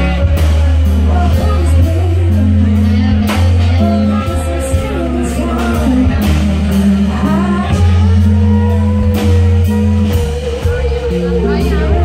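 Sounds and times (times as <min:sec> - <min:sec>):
live band playing: 0:00.0 - 0:12.0
woman singing: 0:00.0 - 0:12.0.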